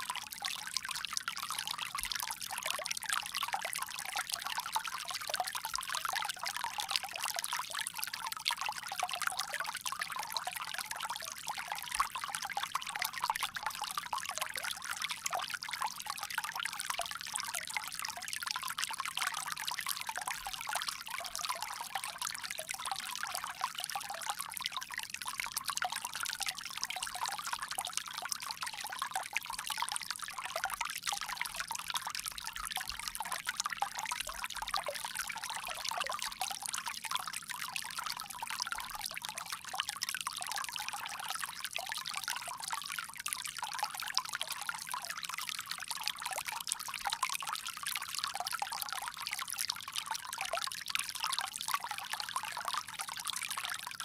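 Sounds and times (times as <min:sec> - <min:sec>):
water trickling from a spout: 0:00.0 - 0:54.0.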